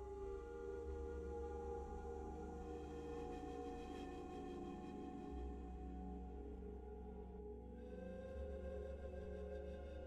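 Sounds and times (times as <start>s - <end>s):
slow ambient music with held tones: 0.0s - 10.0s.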